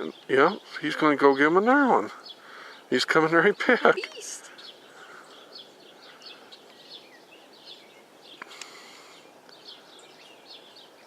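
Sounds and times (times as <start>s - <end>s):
outdoor ambience hiss: 0.0s - 11.0s
small birds chirping: 0.0s - 11.0s.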